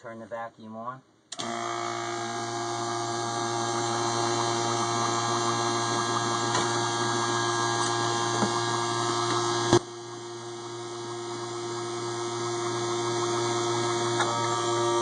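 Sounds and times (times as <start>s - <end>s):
vacuum pump humming: 1.3s - 15.0s.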